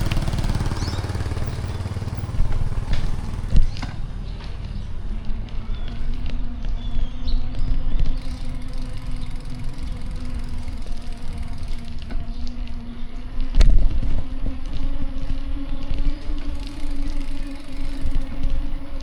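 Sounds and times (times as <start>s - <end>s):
motor vehicles engine hum: 0.0s - 19.0s.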